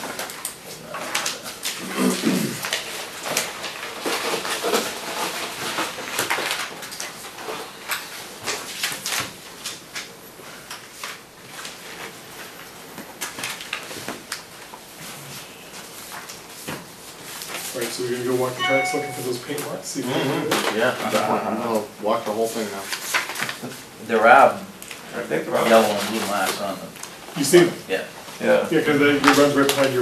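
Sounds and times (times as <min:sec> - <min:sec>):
paper rustling and shuffling: 0:00.0 - 0:19.8, 0:20.5 - 0:30.0.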